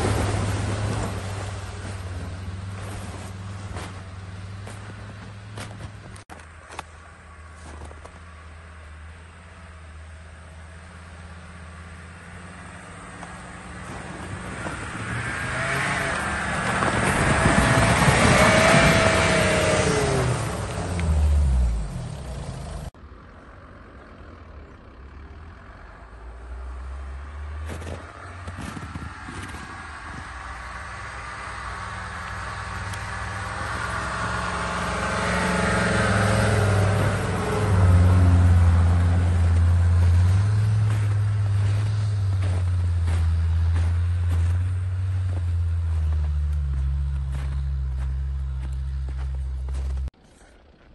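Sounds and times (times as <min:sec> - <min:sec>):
diesel engine driving past: 0:07.1 - 0:50.9.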